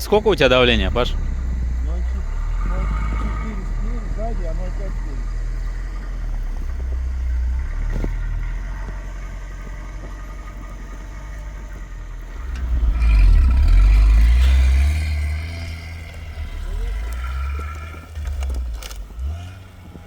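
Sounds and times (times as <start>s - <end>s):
vehicle engine running and revving: 0.0s - 20.0s.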